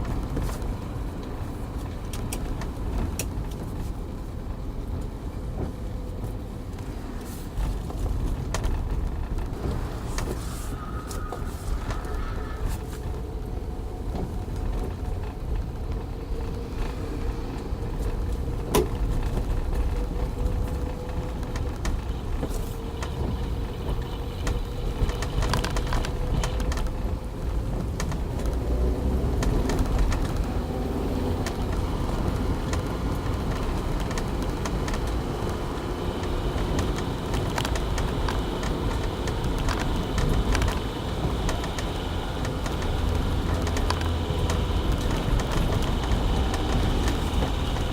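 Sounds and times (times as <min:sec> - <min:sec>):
car engine and road rumble: 0:00.0 - 0:47.9.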